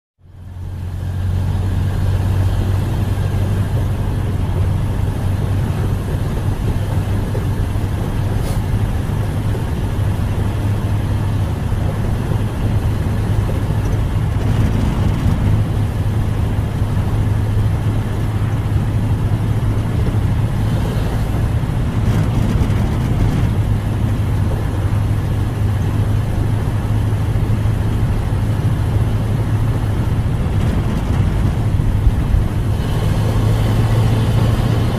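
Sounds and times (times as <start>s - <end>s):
car engine running: 0.2s - 34.9s.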